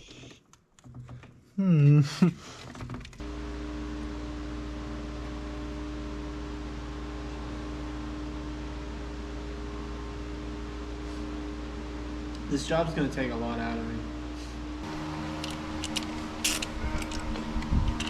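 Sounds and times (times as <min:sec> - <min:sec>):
machine hum with hiss: 0:03.2 - 0:18.0.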